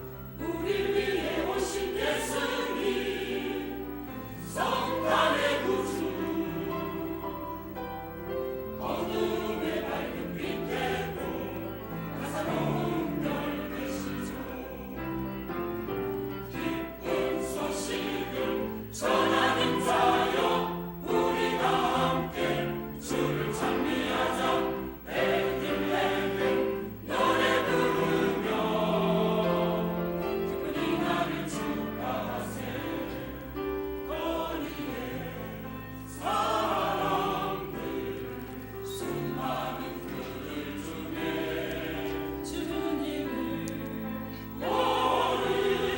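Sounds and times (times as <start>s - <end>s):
choir singing in harmony: 0.0s - 45.9s.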